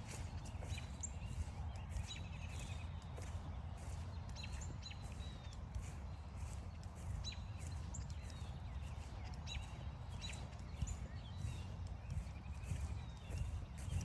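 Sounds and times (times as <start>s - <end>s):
footsteps on forest trail: 0.0s - 14.0s.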